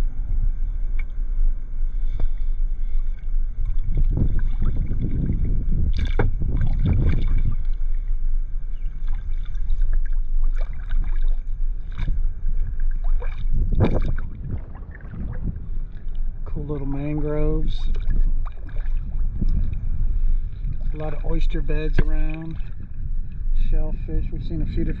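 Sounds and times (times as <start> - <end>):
wind buffeting microphone: 0.0 - 25.0
kayak paddle splashes: 2.0 - 23.5.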